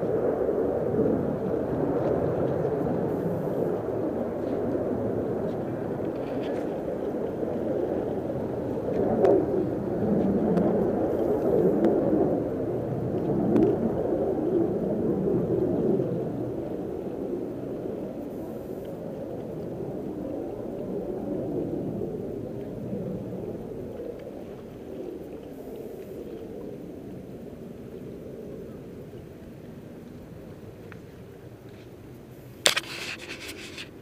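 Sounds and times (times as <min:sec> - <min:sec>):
distant jet aircraft rumble: 0:00.0 - 0:34.0.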